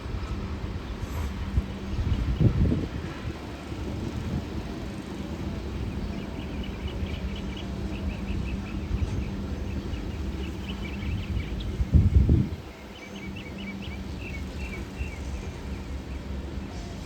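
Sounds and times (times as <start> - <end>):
wind buffeting microphone: 0.0 - 16.6
birds chirping: 0.0 - 17.0
train passing rumble: 0.0 - 17.0.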